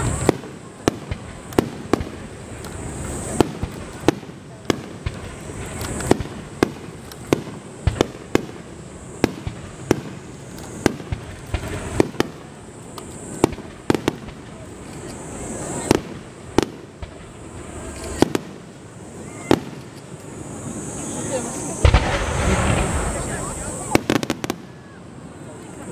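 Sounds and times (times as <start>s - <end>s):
fireworks bangs: 0.0s - 25.9s.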